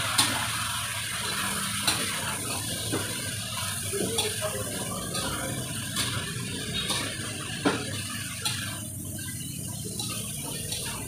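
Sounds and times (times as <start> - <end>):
cooking hiss: 0.0 - 11.0.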